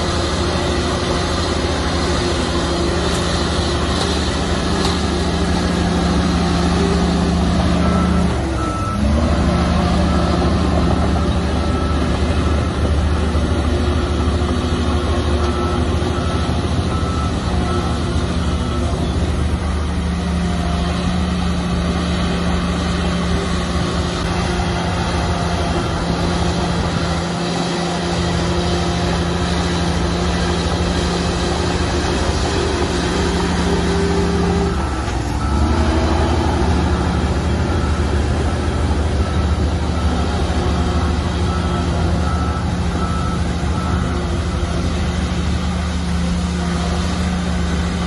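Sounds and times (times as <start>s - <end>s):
heavy diesel engine under load: 0.0s - 48.0s.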